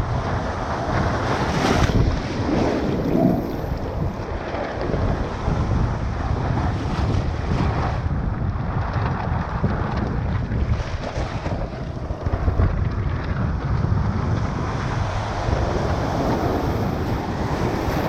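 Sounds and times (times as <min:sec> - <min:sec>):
shorebreak surf: 0:00.0 - 0:12.8, 0:14.4 - 0:18.0
wind buffeting microphone: 0:00.0 - 0:18.0.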